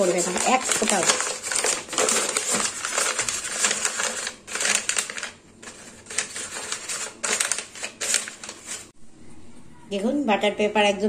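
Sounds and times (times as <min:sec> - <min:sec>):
parchment paper crinkling: 0:00.0 - 0:08.9.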